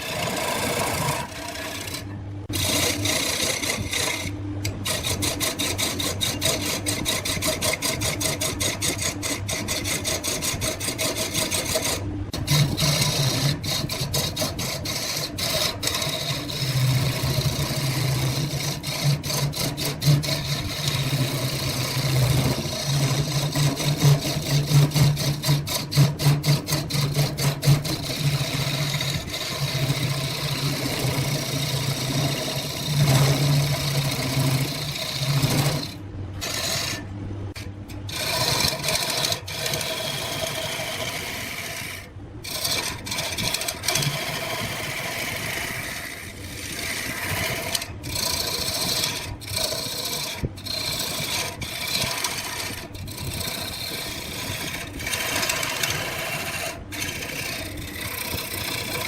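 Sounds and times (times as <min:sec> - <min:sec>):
lathe motor hum: 0:00.0 - 0:59.0
turning tool scraping spinning wood: 0:00.0 - 0:59.0.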